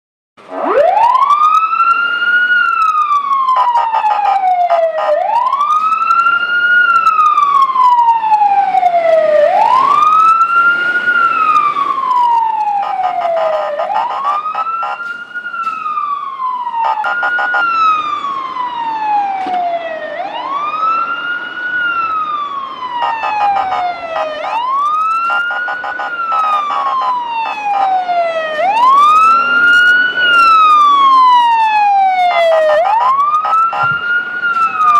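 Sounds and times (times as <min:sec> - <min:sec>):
fire truck siren wailing: 0:00.4 - 0:34.9.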